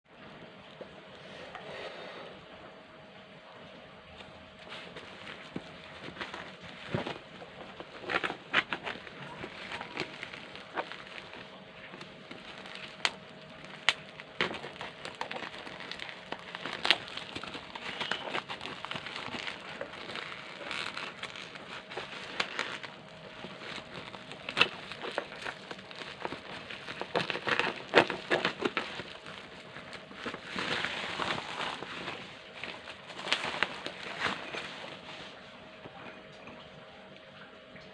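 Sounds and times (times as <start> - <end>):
packaging crinkling and rustling: 4.1 - 36.1.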